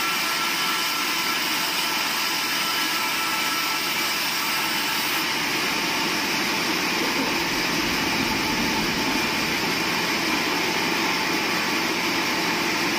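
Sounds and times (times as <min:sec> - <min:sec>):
band saw running: 0:00.0 - 0:12.9.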